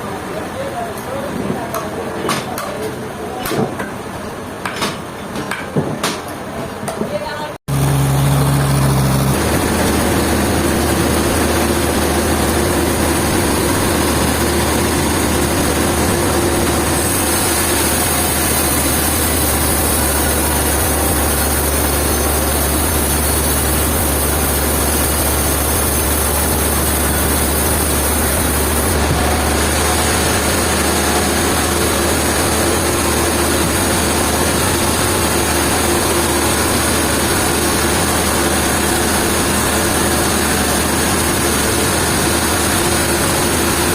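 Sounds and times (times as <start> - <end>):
heavy engine idling: 7.5 - 43.9.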